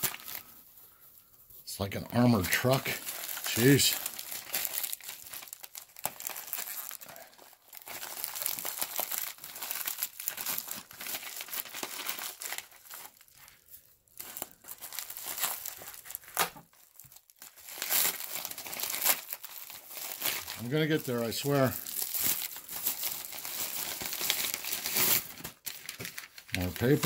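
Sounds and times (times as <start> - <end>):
packing wrap crinkling and tearing: 0.0 - 27.0.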